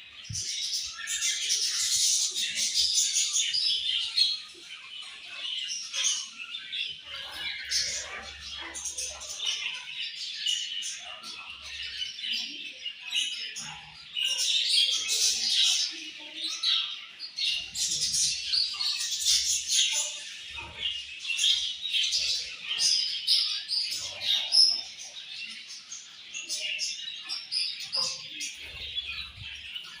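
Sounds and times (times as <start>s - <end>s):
budgerigars chirping and chattering: 0.0s - 30.0s.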